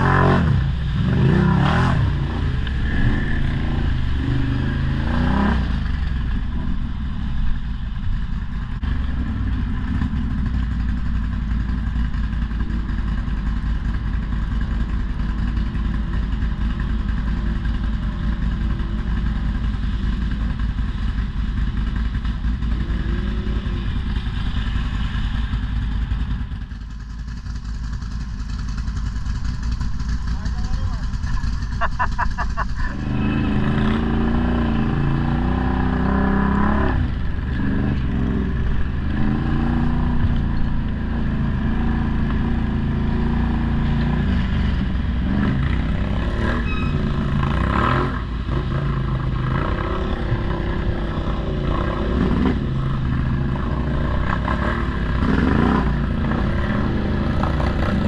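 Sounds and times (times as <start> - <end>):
atv engine revving: 0.0 - 7.5, 8.2 - 58.0.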